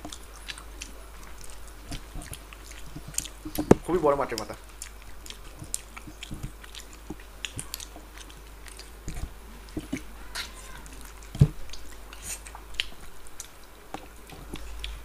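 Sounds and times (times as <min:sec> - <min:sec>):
people chewing and biting food: 0:00.0 - 0:15.0.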